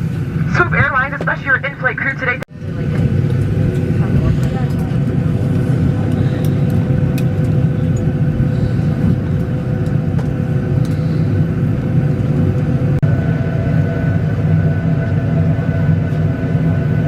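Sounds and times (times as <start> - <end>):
cabin air-conditioning rumble: 0.0 - 15.8.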